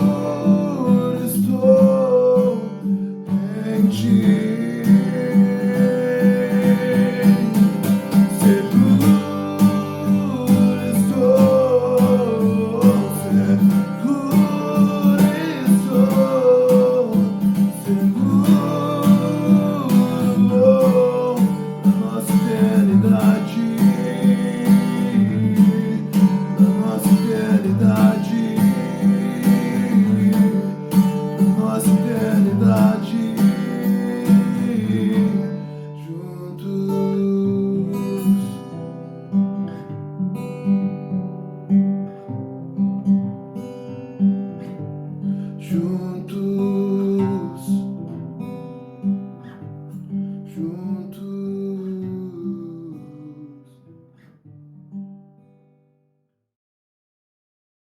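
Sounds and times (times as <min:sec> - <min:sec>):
acoustic guitar strumming: 0:00.0 - 0:56.1.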